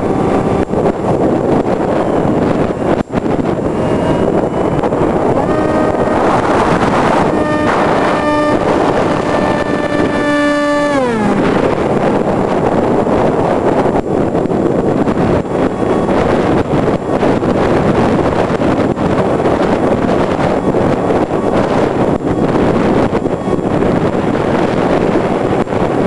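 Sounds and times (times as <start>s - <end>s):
electric motor whine: 0.0s - 24.9s
wind rushing over microphone: 0.0s - 26.0s.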